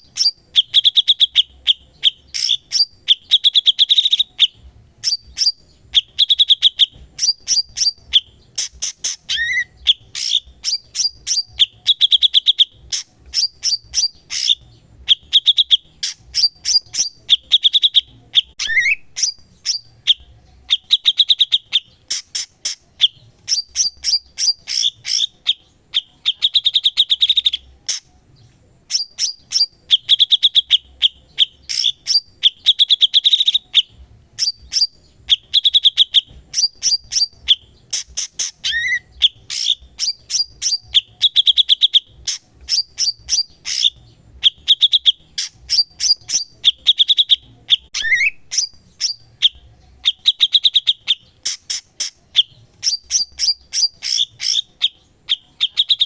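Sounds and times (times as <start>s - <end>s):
bird singing high-pitched trills: 0.0s - 56.0s.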